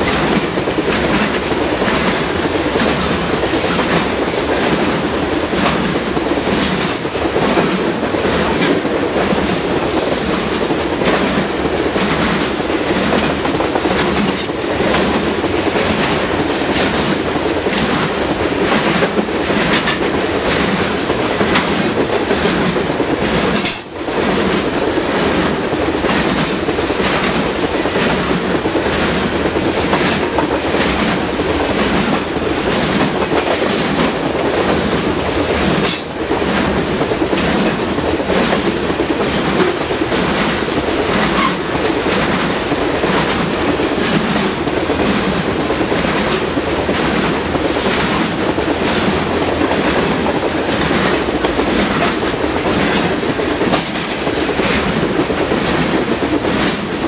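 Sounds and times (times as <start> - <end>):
freight train rumble: 0.0 - 57.0
wheels clacking over rail joints: 0.0 - 57.0.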